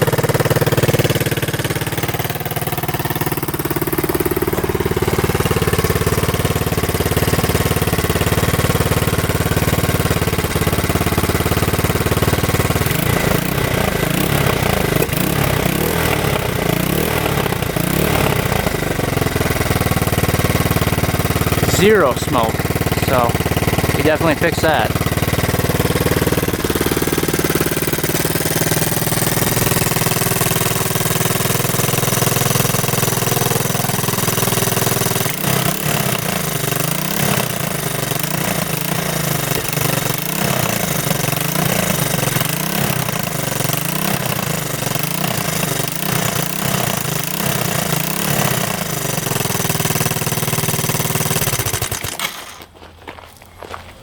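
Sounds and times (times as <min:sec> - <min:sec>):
single-cylinder engine running: 0:00.0 - 0:52.8.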